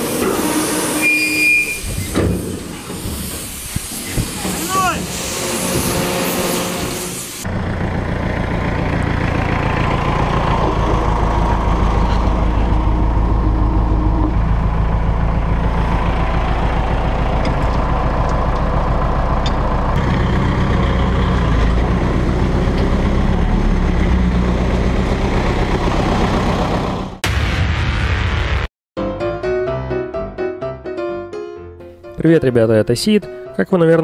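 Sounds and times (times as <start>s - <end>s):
road noise: 0.0s - 27.2s
diesel truck engine throbbing: 0.0s - 27.3s.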